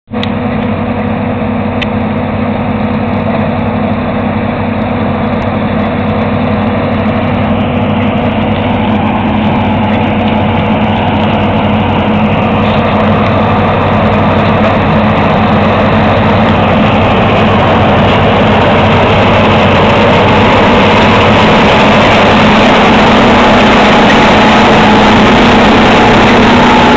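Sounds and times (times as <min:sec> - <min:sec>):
combine harvester running: 0:00.1 - 0:26.9.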